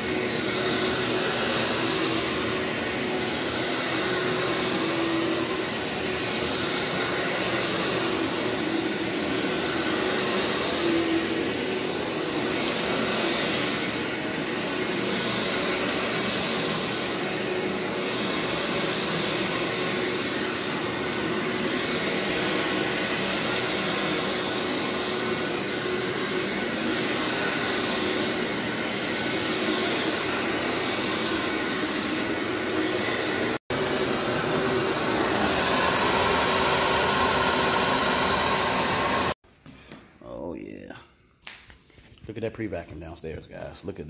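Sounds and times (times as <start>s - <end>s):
vacuum cleaner whirring: 0.0s - 39.4s.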